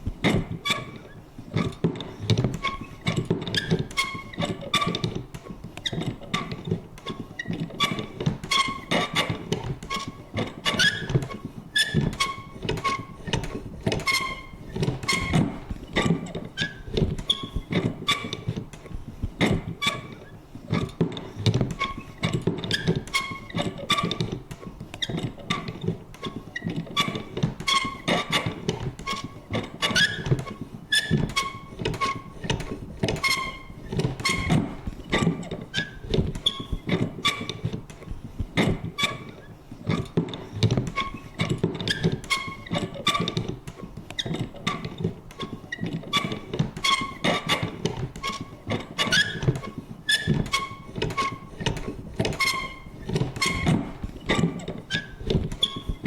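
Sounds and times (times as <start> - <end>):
squeaky mechanism creaks: 0.2 - 56.0.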